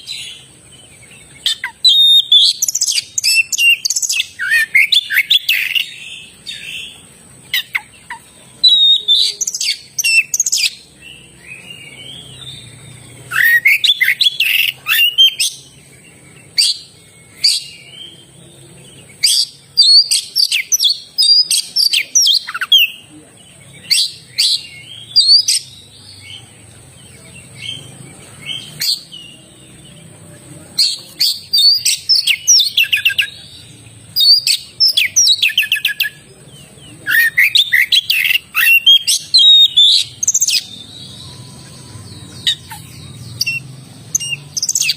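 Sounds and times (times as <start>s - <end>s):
bird singing whistles and chirps: 0.0s - 44.9s.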